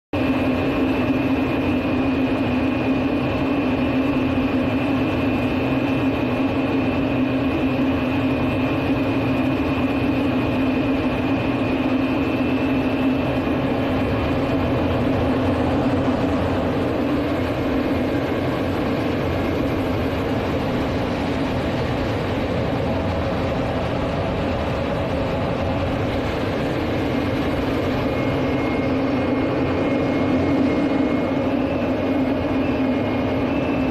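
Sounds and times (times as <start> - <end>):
jet engine drone in cockpit: 0.2 - 33.9
thin high whine: 0.2 - 33.9.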